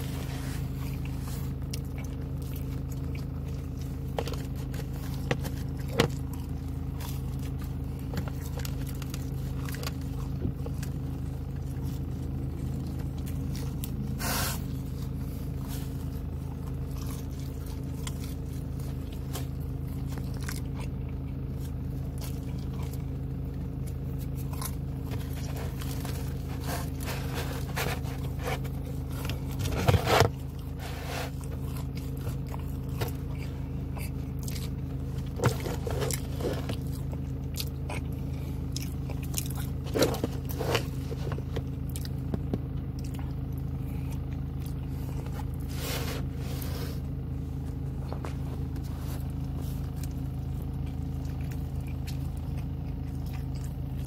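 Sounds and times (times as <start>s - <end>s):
person chewing crunchy pizza: 0.0s - 54.0s
steady low hum: 0.0s - 54.0s.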